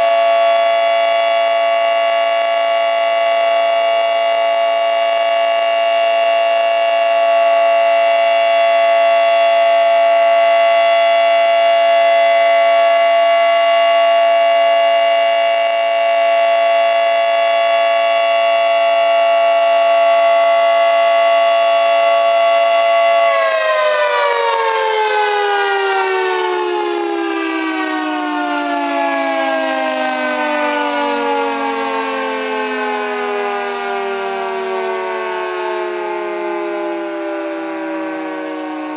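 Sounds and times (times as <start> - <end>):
dual-tone warning siren: 0.0 - 38.9.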